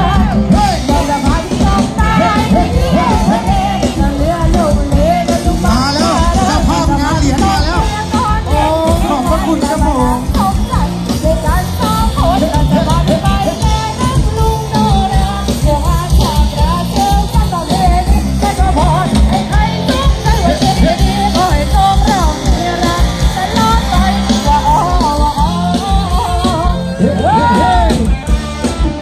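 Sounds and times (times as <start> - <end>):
live dance music: 0.0 - 29.0
steady drum beat: 0.0 - 29.0.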